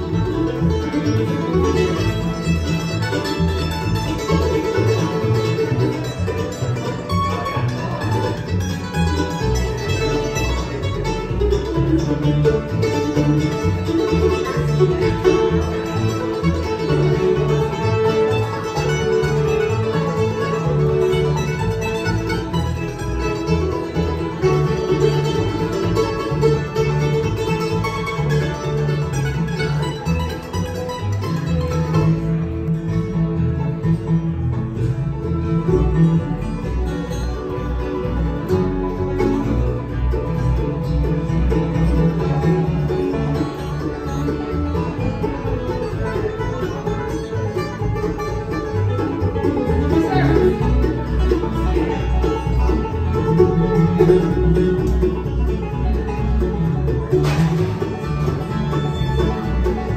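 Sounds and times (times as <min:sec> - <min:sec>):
bluegrass band playing: 0:00.0 - 0:59.9
picked banjo: 0:00.0 - 0:59.9.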